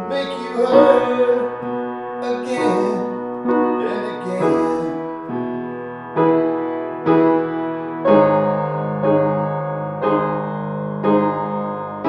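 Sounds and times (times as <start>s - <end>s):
piano chords ringing: 0.0s - 12.0s.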